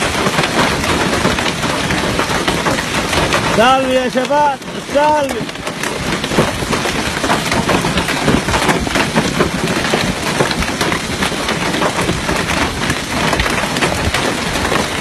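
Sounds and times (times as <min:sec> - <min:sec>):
hail pelting the ground: 0:00.0 - 0:15.0.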